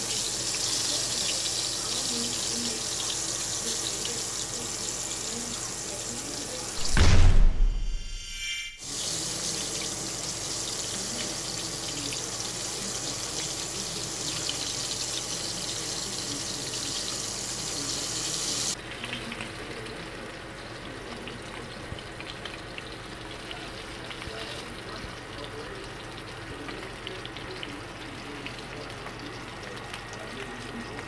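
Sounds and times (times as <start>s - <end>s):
fish sizzling in oil: 0.0s - 6.8s, 8.8s - 31.0s.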